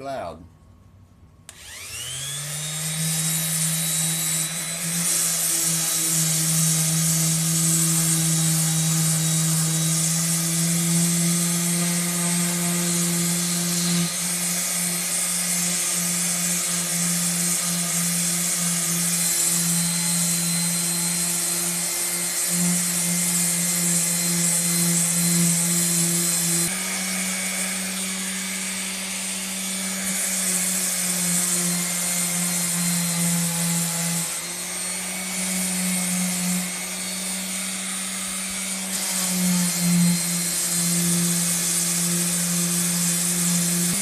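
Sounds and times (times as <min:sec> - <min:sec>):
electric sander grinding metal: 0:01.5 - 0:44.0.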